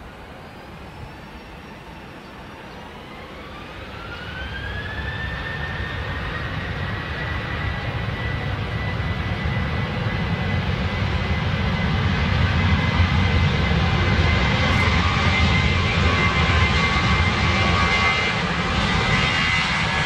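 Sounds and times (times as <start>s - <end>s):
jet engine whine: 0.0s - 20.0s
low jet rumble: 0.0s - 20.0s.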